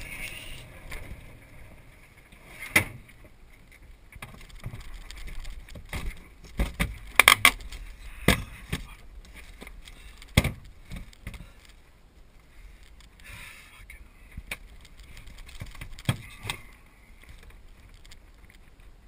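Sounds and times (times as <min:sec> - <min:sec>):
glider rolling over grass: 0:00.0 - 0:19.0.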